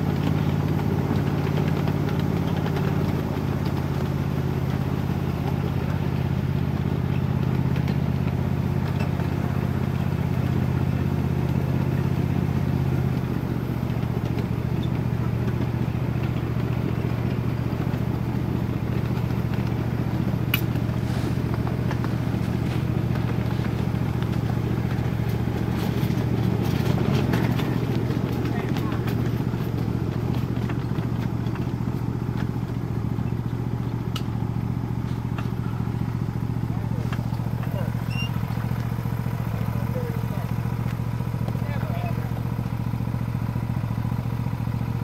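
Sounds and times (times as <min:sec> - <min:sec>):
small train engine running: 0:00.0 - 0:45.0
wheels clattering on track: 0:00.0 - 0:45.0.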